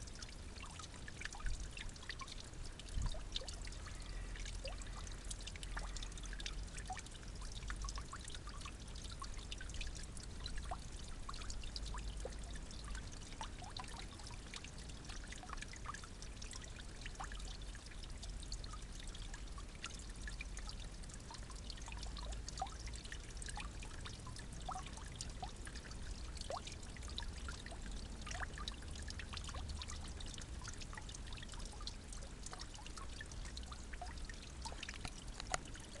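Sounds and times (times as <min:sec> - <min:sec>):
water drips and splashes: 0:00.0 - 0:36.0
water trickling and pouring: 0:00.0 - 0:36.0.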